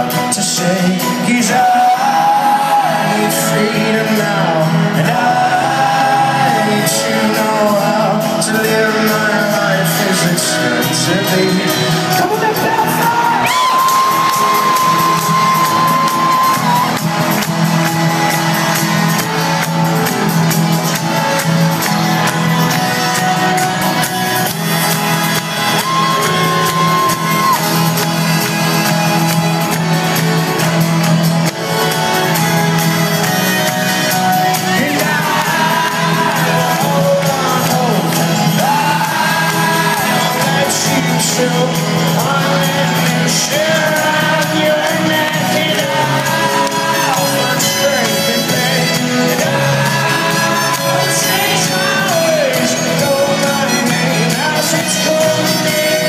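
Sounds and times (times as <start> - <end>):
crowd shouting and singing along: 0.0 - 56.0
live folk-rock band playing: 0.0 - 56.0.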